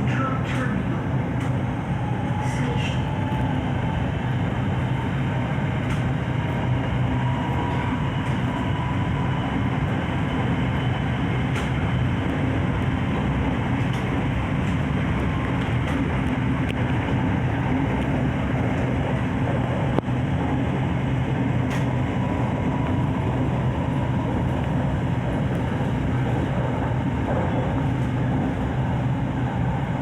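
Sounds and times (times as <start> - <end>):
train rumble with low hum: 0.0 - 30.0.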